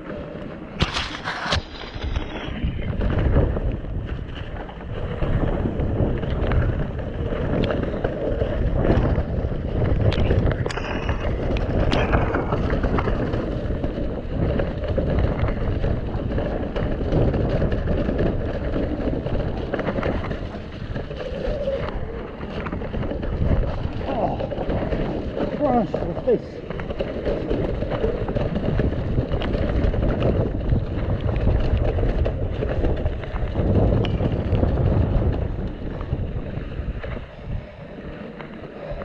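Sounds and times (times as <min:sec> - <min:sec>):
bike knocking and rattling: 0:00.0 - 0:39.0
tyre and wind noise: 0:00.0 - 0:39.0.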